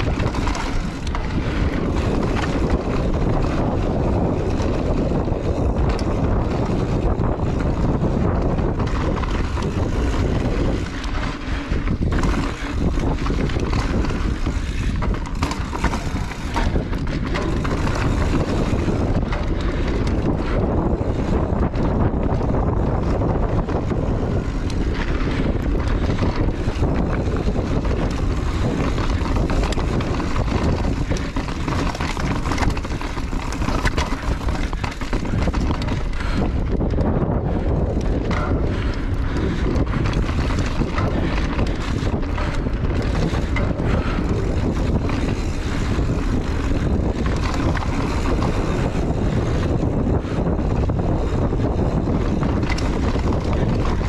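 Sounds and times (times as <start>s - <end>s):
bike rattling and knocking: 0.0s - 54.0s
bike tyres rolling over dirt: 0.0s - 54.0s
wind noise on microphone: 0.0s - 54.0s.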